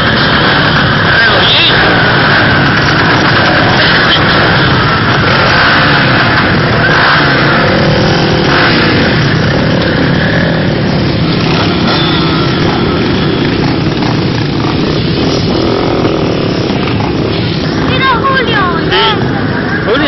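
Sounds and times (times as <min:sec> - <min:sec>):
motorcycle and quad engines: 0:00.0 - 0:20.0.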